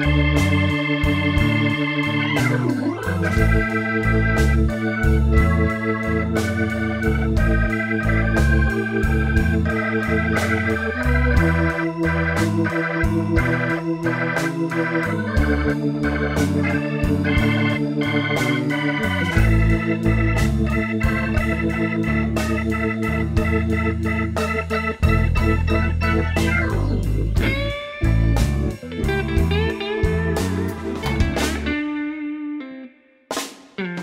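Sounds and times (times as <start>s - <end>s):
instrumental music with a beat: 0.0s - 32.3s, 33.3s - 34.0s.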